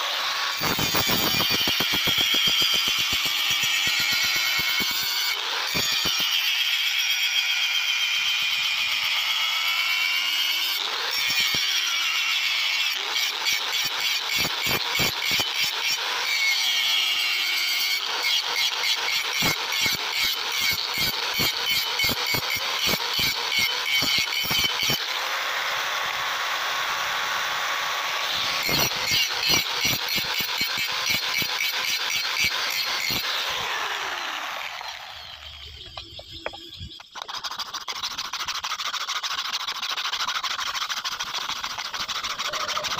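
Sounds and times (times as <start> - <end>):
angle grinder grinding steel: 0.0 - 42.9.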